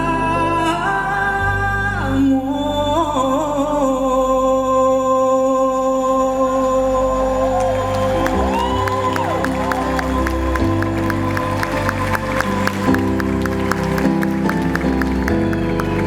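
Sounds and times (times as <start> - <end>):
bass notes: 0.0 - 16.0.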